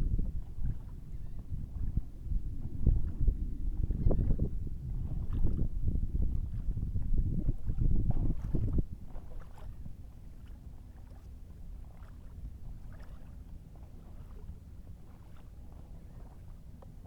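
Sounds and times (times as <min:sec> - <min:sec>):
low steady rumble: 0:00.0 - 0:17.0
water splashing against hull: 0:00.0 - 0:17.0.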